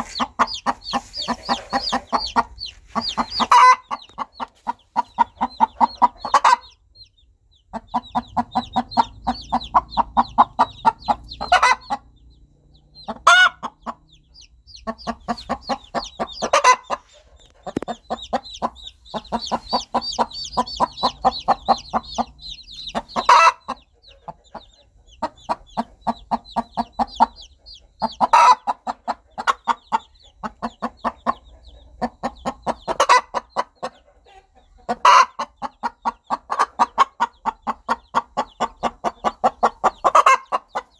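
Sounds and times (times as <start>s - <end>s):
chicks peeping: 0.0s - 40.9s
hen clucking: 0.0s - 40.9s.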